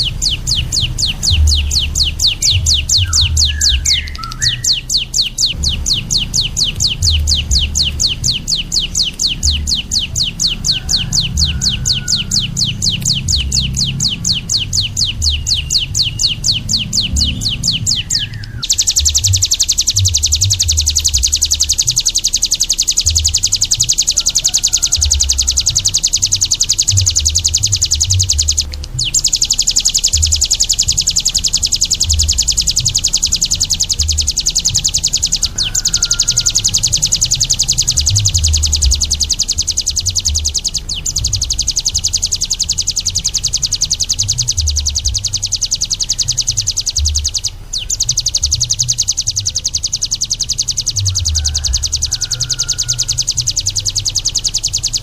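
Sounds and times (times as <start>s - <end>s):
low rumble: 0.0s - 22.0s, 24.9s - 49.8s
songbird chirping and trilling: 0.0s - 55.0s.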